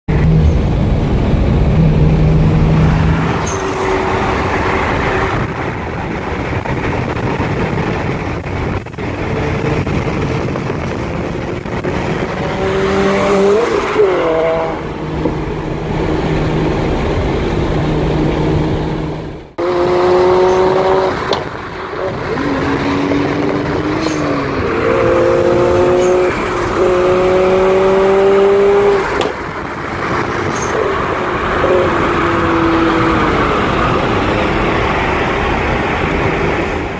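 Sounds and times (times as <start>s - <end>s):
road and wind noise: 0.0s - 36.9s
car engine accelerating: 0.1s - 36.9s.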